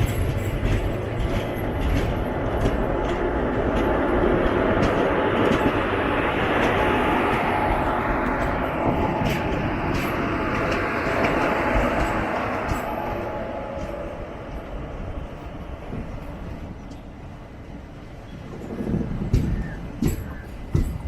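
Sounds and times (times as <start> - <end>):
train running rush: 0.0 - 21.0.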